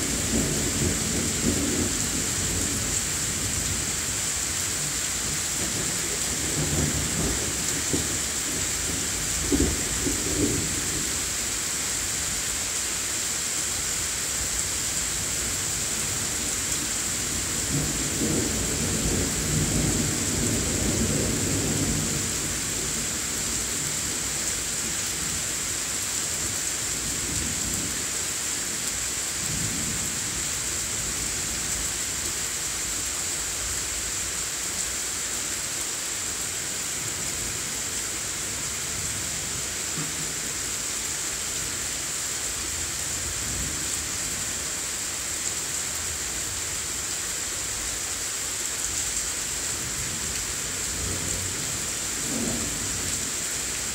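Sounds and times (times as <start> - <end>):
rain hissing: 0.0 - 53.9.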